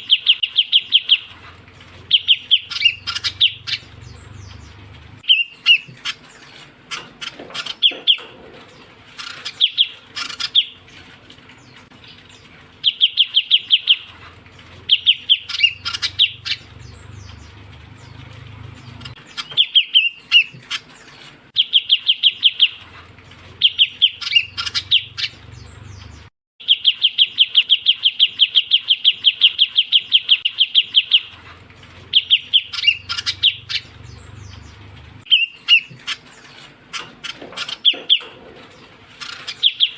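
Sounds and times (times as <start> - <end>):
bird chattering trills: 0.0 - 11.0, 11.6 - 39.9.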